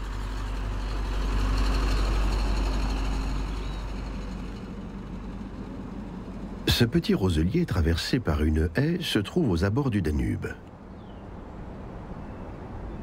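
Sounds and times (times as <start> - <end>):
distant vehicle engine rumble: 0.0 - 13.0.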